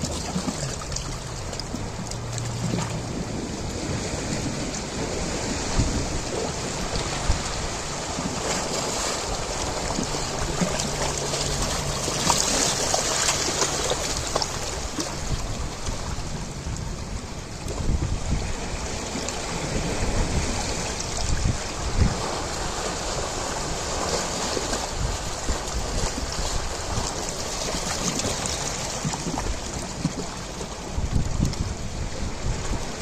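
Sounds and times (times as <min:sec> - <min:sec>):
ocean surf washing in: 0:00.0 - 0:33.0
wind buffeting microphone: 0:00.0 - 0:33.0.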